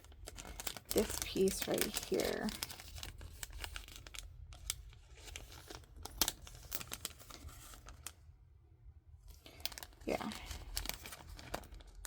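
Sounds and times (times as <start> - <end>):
packaging crinkling: 0.0 - 8.2, 9.3 - 12.0.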